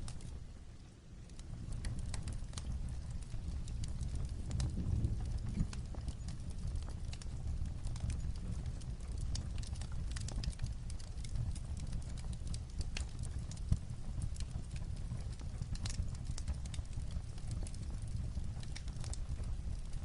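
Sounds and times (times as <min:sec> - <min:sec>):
fireplace crackling: 0:00.0 - 0:20.0
light rain on a roof: 0:00.0 - 0:20.0.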